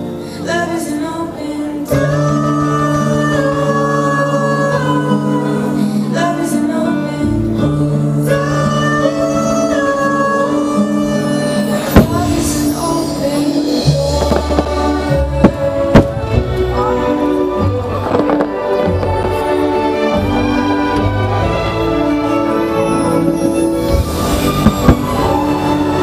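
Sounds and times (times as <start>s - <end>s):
soundtrack music with singing: 0.0s - 26.0s.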